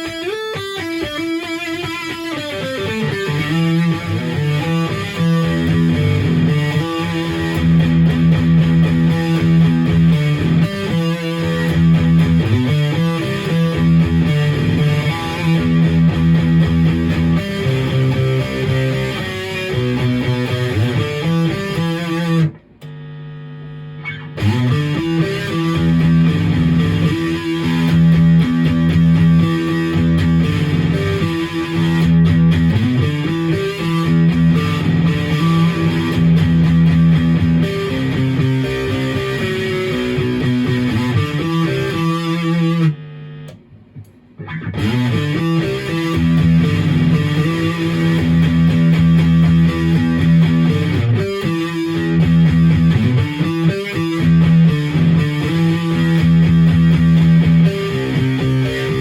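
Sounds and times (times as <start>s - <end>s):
distorted electric guitar riffs: 0.0s - 59.0s.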